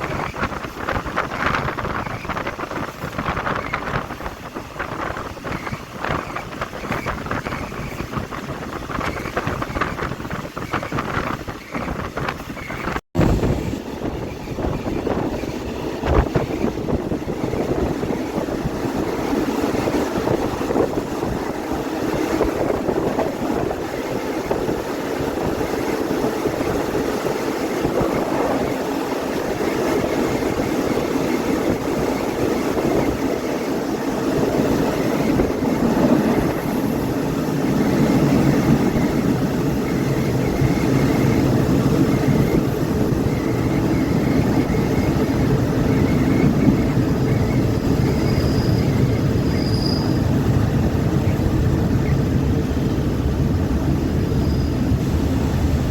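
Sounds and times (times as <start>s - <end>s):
train running on track: 0.0s - 55.9s
wind buffeting microphone: 0.0s - 55.9s.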